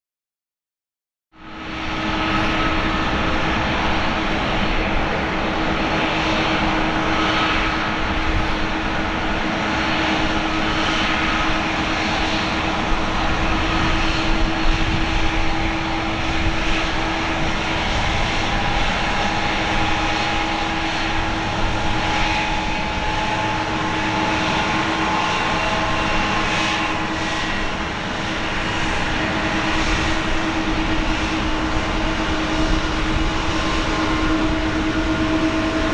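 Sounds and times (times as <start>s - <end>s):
jet engines idling: 1.4s - 35.9s.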